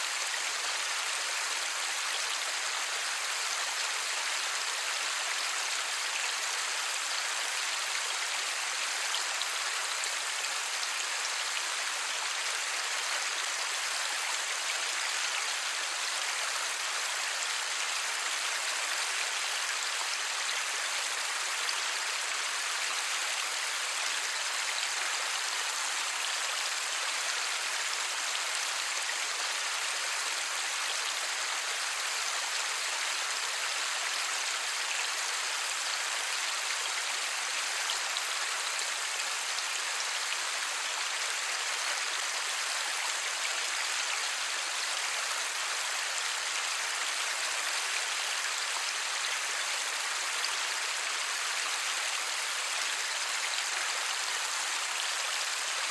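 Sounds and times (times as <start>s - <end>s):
light rain falling: 0.0s - 55.9s.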